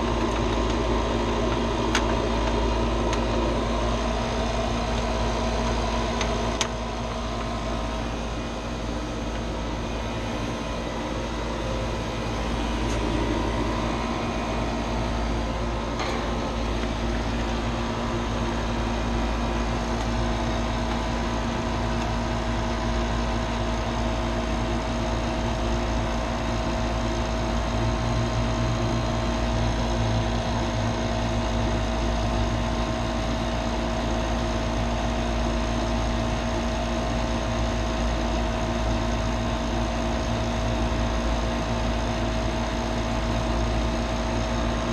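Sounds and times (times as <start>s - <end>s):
hvac mechanical hum: 0.0s - 44.9s.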